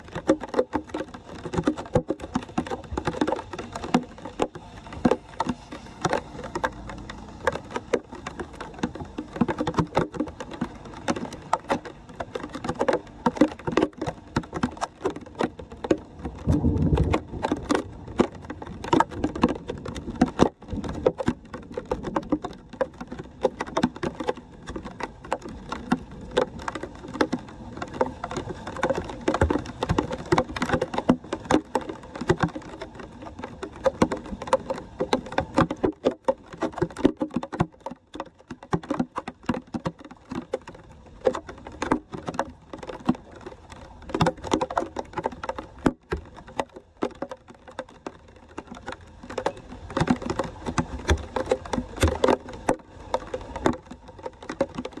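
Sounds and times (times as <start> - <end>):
water pouring through drain grate: 0.0 - 55.0.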